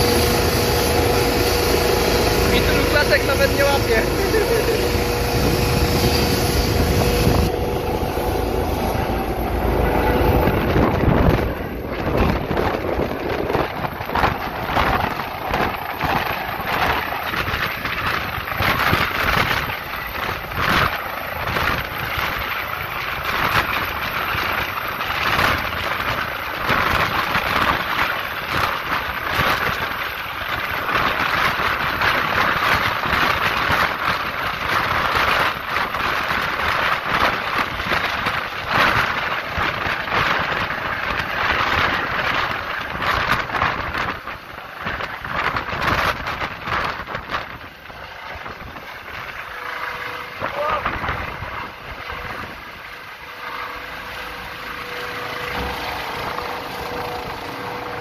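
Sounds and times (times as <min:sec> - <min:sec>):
downwash buffeting microphone: 0:00.0 - 0:58.0
helicopter rotor chopping: 0:00.0 - 0:58.0
helicopter turbine whine: 0:00.0 - 0:58.0.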